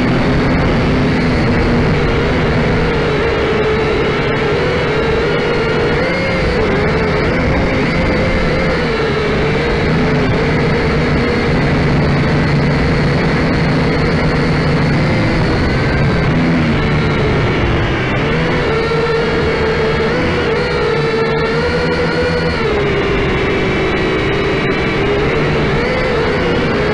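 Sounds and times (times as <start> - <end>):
quadcopter motors whining: 0.0 - 26.9.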